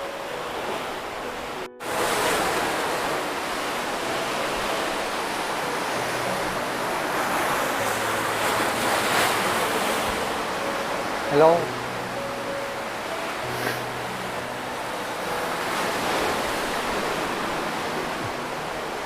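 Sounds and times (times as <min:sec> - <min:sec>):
sea surf rushing: 0:00.0 - 0:19.0.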